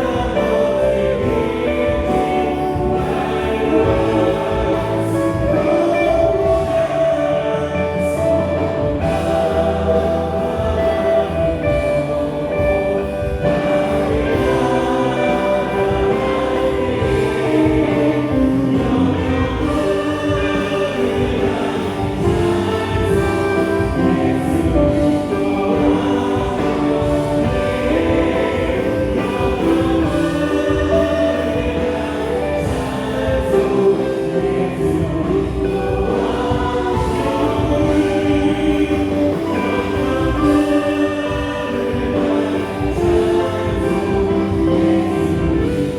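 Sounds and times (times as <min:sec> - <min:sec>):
group of singers: 0:00.0 - 0:45.9
praise band playing: 0:00.0 - 0:45.9.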